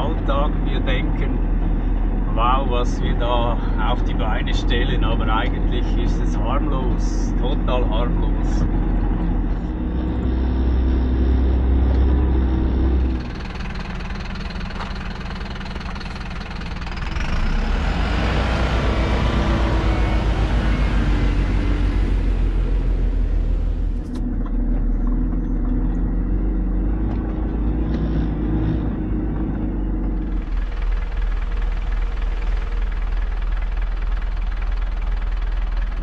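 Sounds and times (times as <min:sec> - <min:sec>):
truck engine droning: 0:00.0 - 0:36.0.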